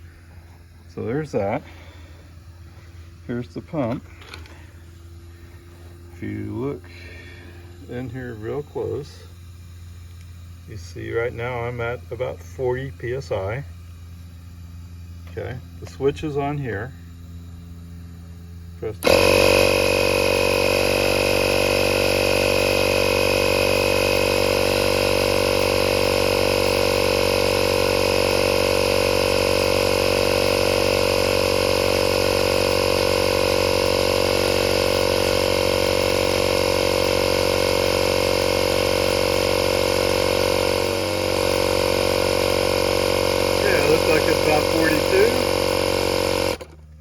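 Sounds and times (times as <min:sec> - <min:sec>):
electric air compressor running: 0:00.0 - 0:47.0.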